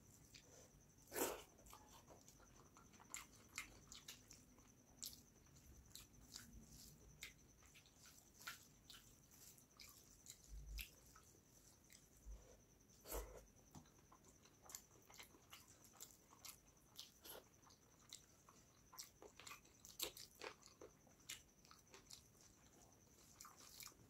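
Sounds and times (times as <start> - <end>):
wet eating sounds: 0.2 - 12.2, 13.0 - 24.0.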